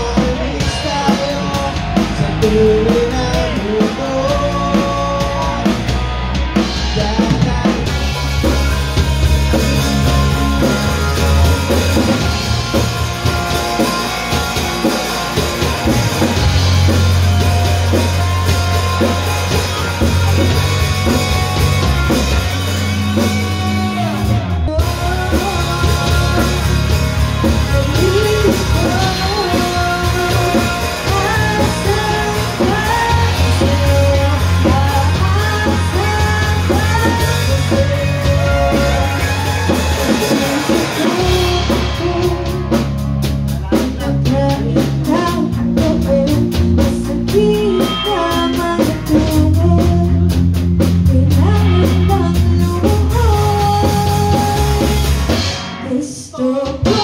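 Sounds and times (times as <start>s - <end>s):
person singing: 0.0s - 8.7s, 9.5s - 57.0s
live rock band playing: 0.0s - 57.0s.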